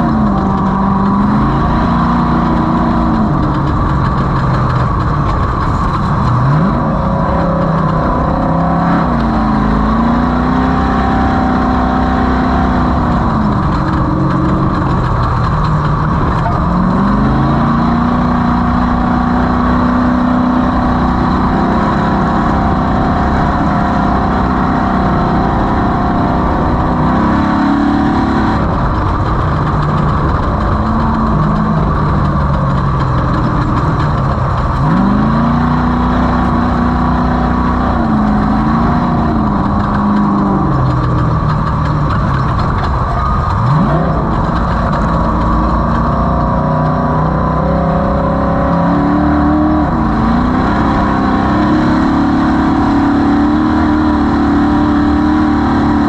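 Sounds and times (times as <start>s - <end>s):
noisy rumble: 0.0s - 56.0s
race vehicle engine revving: 0.0s - 56.0s.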